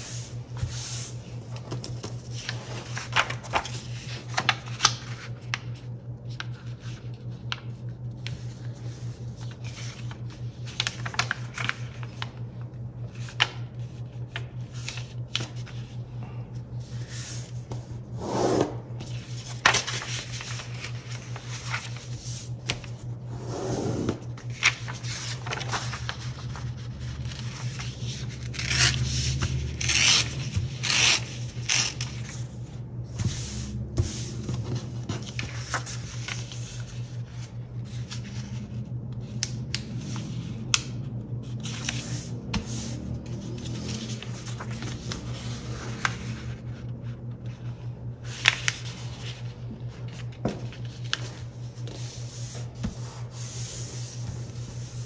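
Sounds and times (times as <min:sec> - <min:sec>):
steady low hum: 0:00.0 - 0:55.0
paper crinkling while folded: 0:00.1 - 0:16.1, 0:19.0 - 0:23.1, 0:24.3 - 0:32.6, 0:33.3 - 0:55.0.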